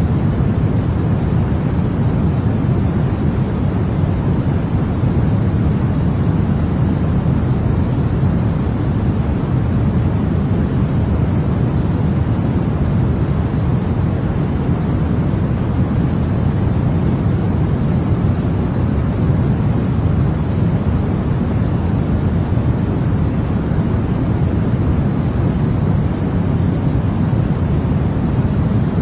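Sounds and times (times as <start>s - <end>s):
white noise hiss: 0.0s - 29.0s.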